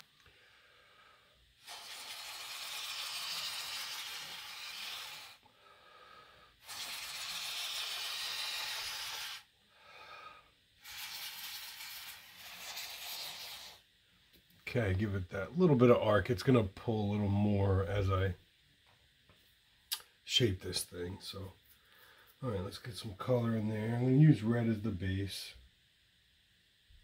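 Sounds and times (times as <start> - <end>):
steady hissing: 0.0 - 27.0.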